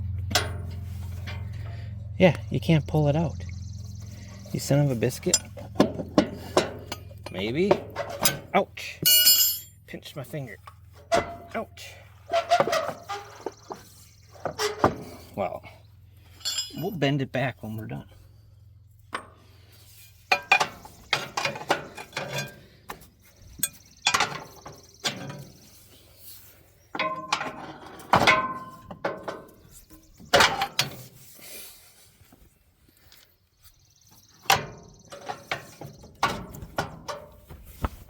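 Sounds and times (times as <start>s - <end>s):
hand tools clanking on metal: 0.1s - 3.3s, 3.9s - 18.0s, 19.1s - 31.8s, 34.3s - 38.0s.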